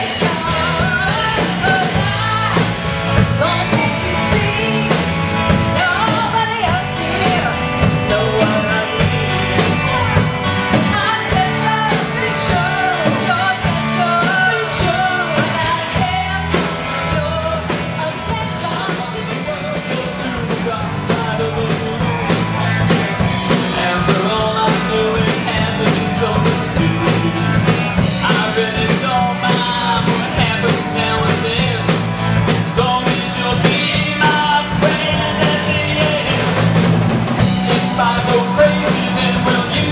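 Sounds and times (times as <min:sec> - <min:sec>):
lead vocal singing: 0:00.0 - 0:39.9
rock band playing: 0:00.0 - 0:39.9.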